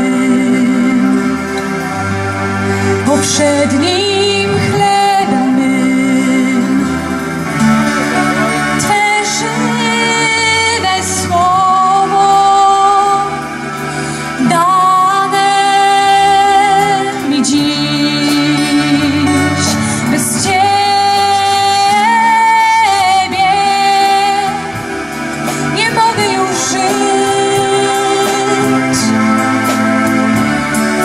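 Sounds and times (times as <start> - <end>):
acoustic guitar and band: 0.0 - 31.0
woman singing: 0.0 - 31.0.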